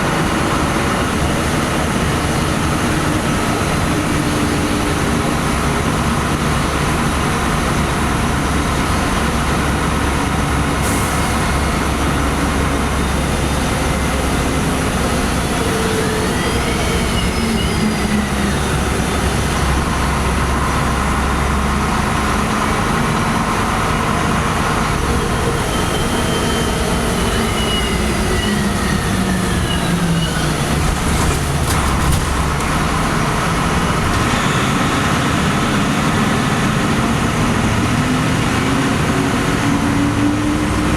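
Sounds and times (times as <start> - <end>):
bus engine and road rumble: 0.0 - 40.9.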